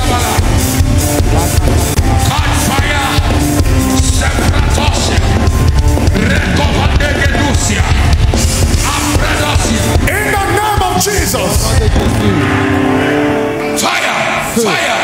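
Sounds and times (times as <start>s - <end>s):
live band music with heavy bass: 0.0s - 15.0s.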